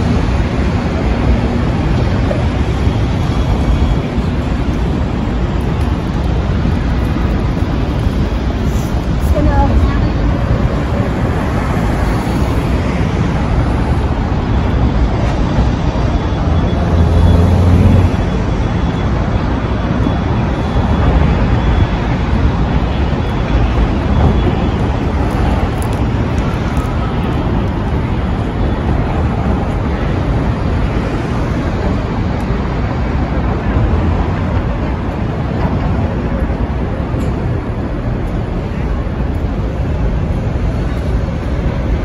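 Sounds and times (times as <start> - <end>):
cars and buses passing: 0.0 - 42.0
low rumble of close vehicle: 0.0 - 42.0.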